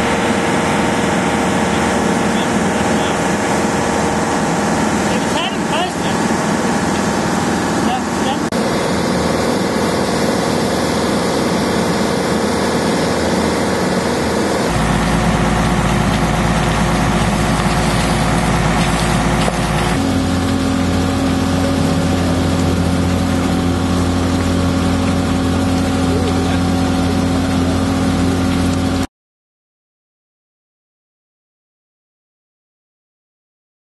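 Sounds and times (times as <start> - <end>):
diesel engines and pumps running: 0.0 - 29.1.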